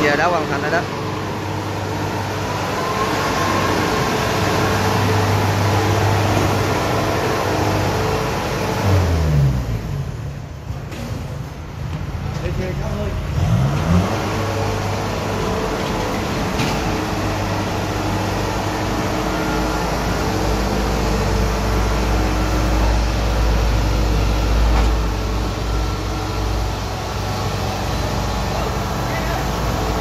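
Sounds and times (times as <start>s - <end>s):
diesel engine running steadily: 0.0s - 30.0s.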